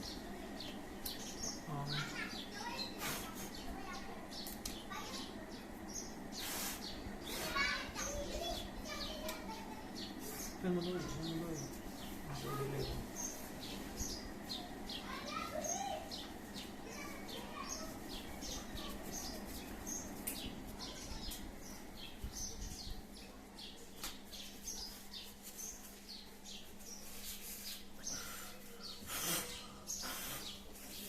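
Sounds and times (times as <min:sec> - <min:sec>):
small bird chirping: 0:00.0 - 0:31.0.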